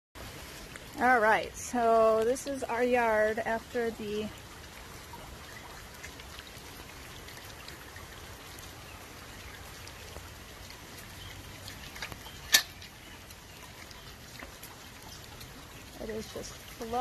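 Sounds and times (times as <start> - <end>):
light rain pattering: 0.2 - 17.0.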